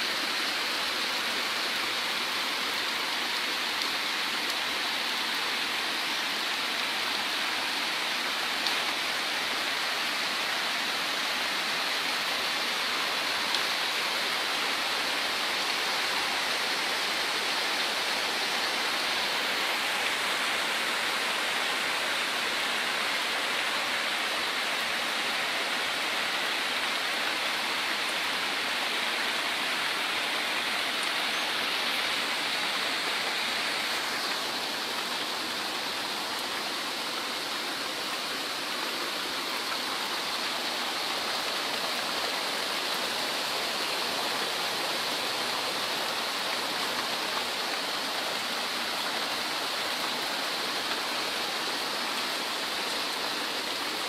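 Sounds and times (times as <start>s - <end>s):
heavy rain and runoff pouring: 0.0s - 54.0s.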